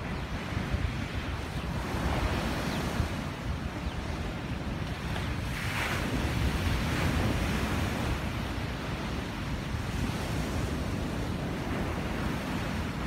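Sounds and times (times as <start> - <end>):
sea surf breaking on beach: 0.0 - 13.0
wind buffeting microphone: 0.0 - 13.0.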